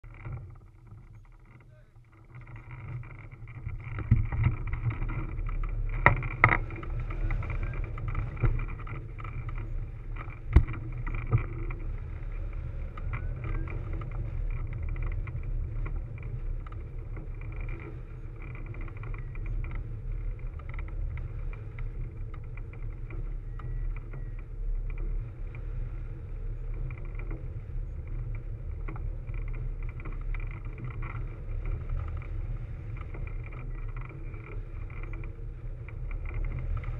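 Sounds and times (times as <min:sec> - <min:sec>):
wind rush and buffeting: 0:00.0 - 0:36.9.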